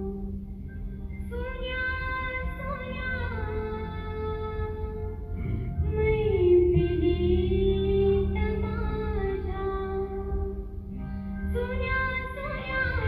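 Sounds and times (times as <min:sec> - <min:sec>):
steady low drone note: 0:00.0 - 0:13.0
woman singing into a microphone: 0:01.2 - 0:10.8, 0:11.5 - 0:13.0.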